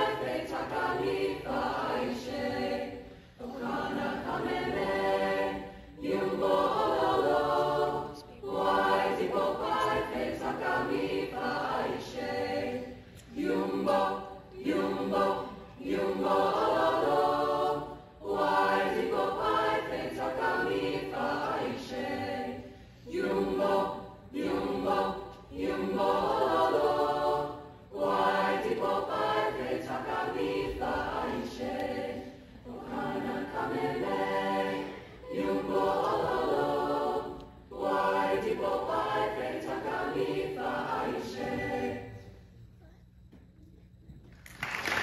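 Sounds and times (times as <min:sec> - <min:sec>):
choir singing a cappella: 0:00.0 - 0:43.0.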